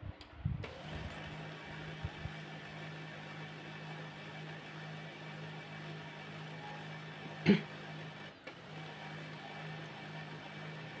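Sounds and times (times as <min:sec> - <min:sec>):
printer motor humming: 0:00.6 - 0:11.0.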